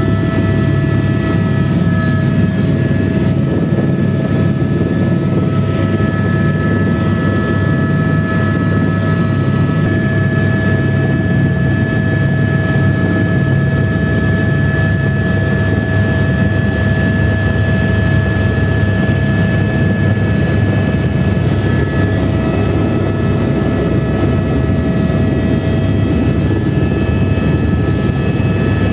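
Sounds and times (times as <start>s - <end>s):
helicopter rotor thrum: 0.0s - 28.9s
helicopter turbine whine: 0.0s - 28.9s.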